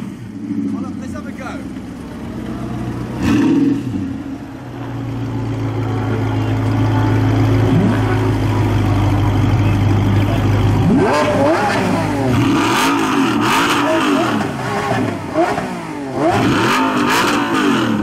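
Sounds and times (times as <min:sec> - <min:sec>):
car engine blipping and idling: 0:00.0 - 0:18.0.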